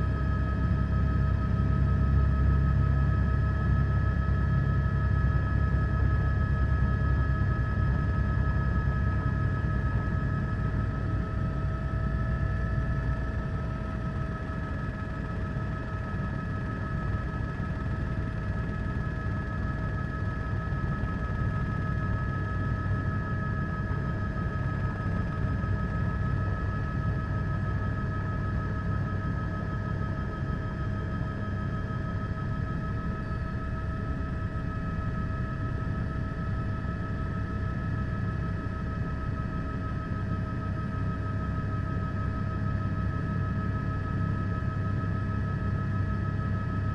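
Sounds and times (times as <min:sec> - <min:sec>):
helicopter rotor rumble: 0:00.0 - 0:46.9.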